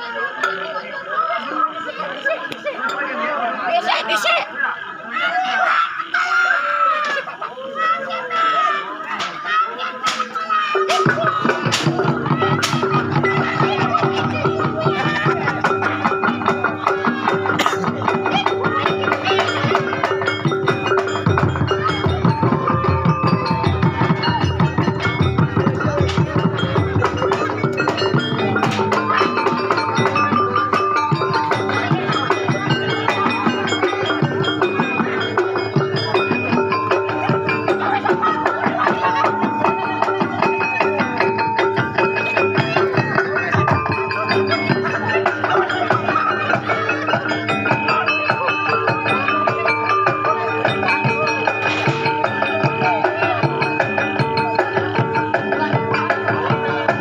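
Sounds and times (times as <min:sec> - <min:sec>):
bell-like percussion music: 0:00.0 - 0:04.6, 0:06.6 - 0:57.0
ringing pitched tones: 0:10.6 - 0:57.0.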